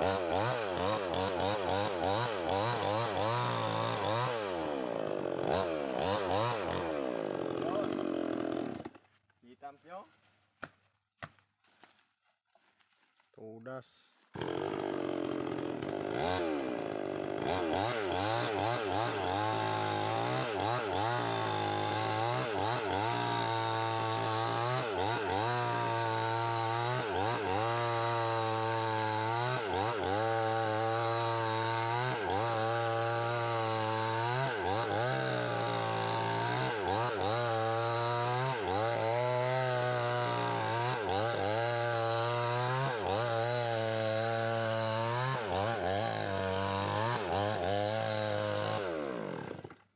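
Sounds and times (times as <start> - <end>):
chainsaw cutting wood: 0.0 - 9.4, 14.2 - 49.9.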